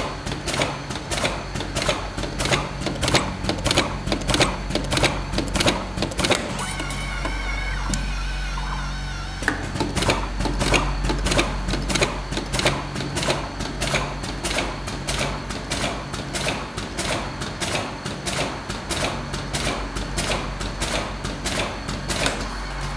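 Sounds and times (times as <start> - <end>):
machine hum: 0.0 - 22.9
machine clicking: 0.3 - 8.0, 9.5 - 22.4.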